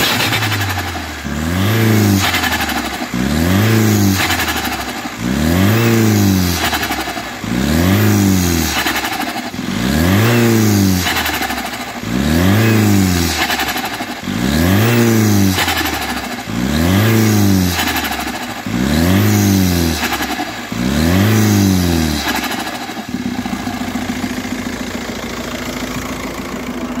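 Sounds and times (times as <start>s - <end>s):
diesel engine idling: 0.0s - 27.0s
diesel engine revving: 0.0s - 27.0s.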